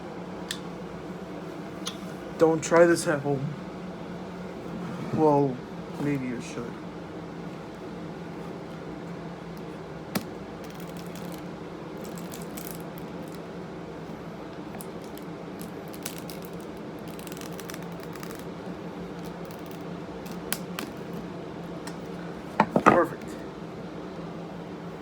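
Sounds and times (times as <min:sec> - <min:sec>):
electric fan humming: 0:00.0 - 0:25.0.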